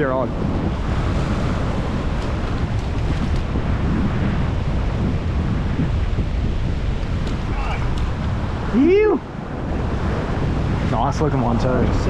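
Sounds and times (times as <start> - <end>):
wind buffeting microphone: 0.0 - 12.0
ocean surf breaking on rocks: 0.1 - 12.0.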